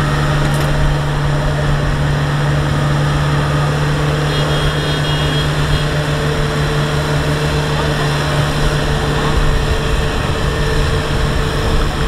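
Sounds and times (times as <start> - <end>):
diesel engines humming: 0.0 - 12.0.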